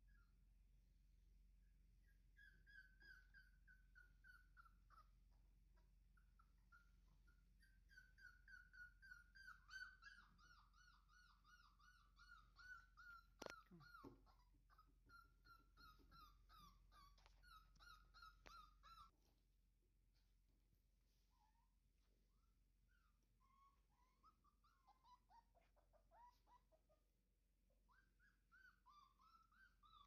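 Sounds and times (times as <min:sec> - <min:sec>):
puppy whimpering: 0:02.0 - 0:19.2, 0:21.2 - 0:30.0.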